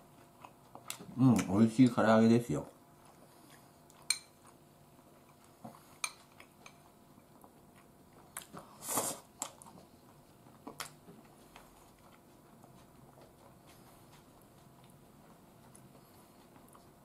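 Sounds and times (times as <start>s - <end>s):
person chewing: 0.0s - 1.6s, 2.9s - 17.0s.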